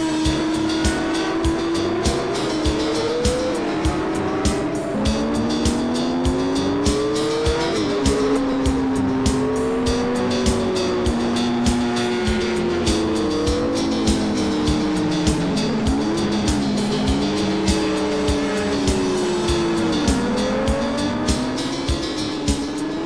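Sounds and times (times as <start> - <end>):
motorcycle engines accelerating: 0.0 - 23.0
music with steady beat: 0.0 - 23.0.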